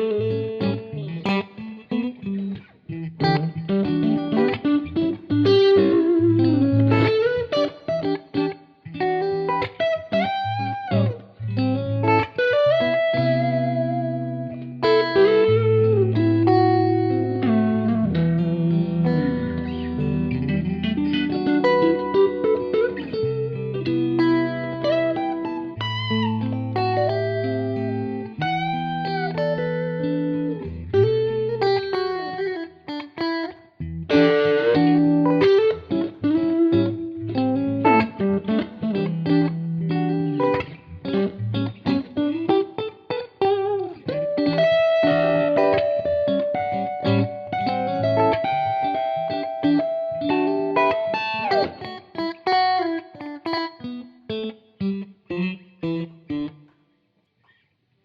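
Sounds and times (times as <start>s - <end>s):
electric guitar playing: 0.0s - 56.8s.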